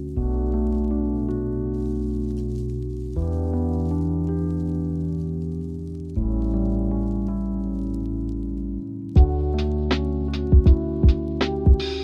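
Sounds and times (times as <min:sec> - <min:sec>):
soft held chords: 0:00.0 - 0:12.0.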